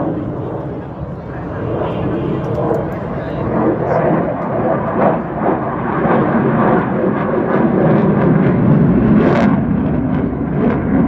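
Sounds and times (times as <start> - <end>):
plane roaring past: 0.0 - 11.0.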